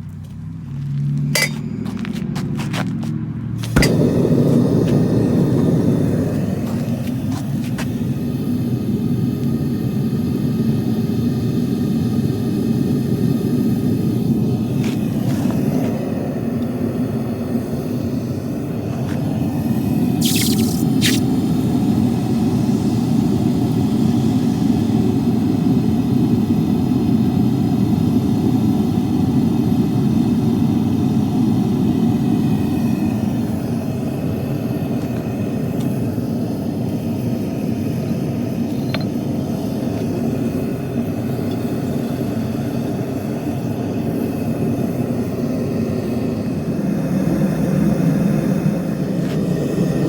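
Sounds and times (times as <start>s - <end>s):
furnace burner roaring: 0.0s - 50.0s.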